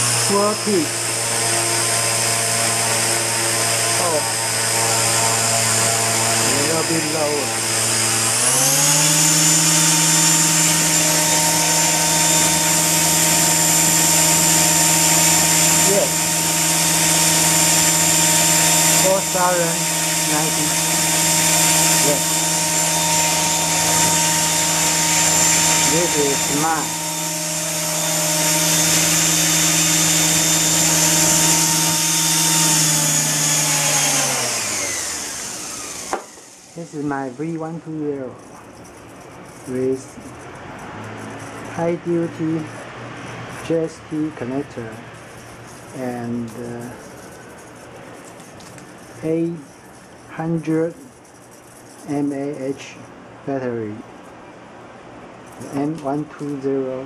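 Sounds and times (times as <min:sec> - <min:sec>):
rotor blades humming: 0:00.0 - 0:56.8
motor and gears whine: 0:00.0 - 0:57.0.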